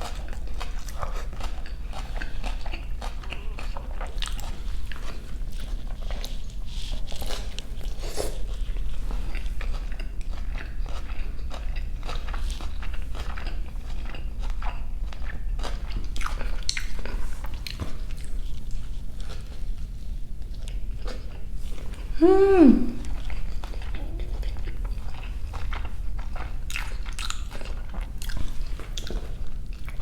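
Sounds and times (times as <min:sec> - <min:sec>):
crunchy chewing close-up: 0:00.0 - 0:30.0.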